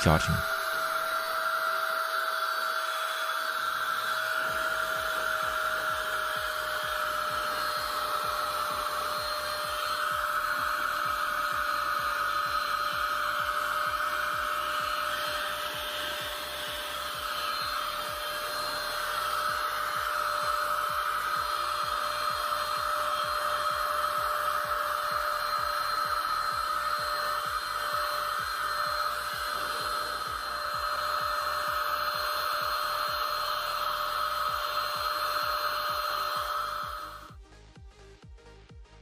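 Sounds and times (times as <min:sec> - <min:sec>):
handheld vacuum whining: 0:00.0 - 0:37.4.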